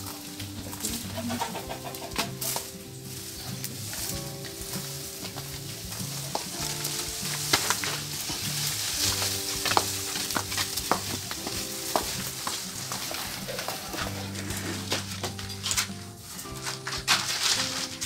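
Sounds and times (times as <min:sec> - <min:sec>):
background music with bass line: 0:00.0 - 0:18.0
leaves and twigs rustling: 0:00.0 - 0:18.0
twigs snapping: 0:00.0 - 0:18.0.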